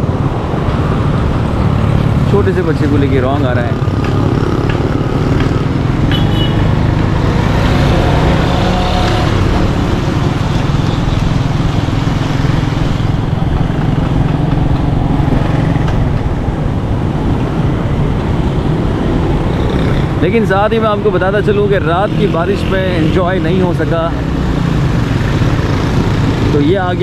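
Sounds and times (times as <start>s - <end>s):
hum of traffic: 0.0s - 27.0s
vehicle engine and road noise: 0.0s - 27.0s.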